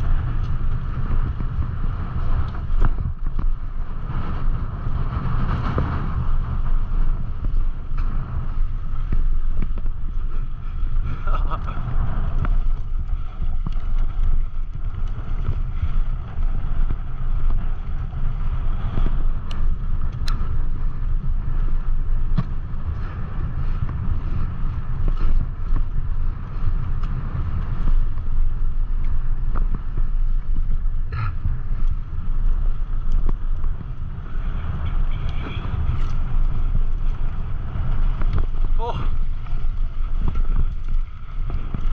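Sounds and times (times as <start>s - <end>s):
bike clicks and rattles: 0.0s - 41.9s
wind buffeting microphone: 0.0s - 41.9s.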